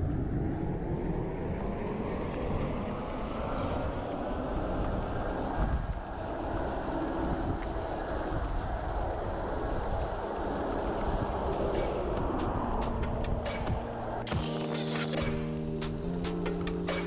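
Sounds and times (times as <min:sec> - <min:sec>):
wind on microphone: 0:00.0 - 0:14.3
bicycle tyres on road: 0:00.0 - 0:15.3.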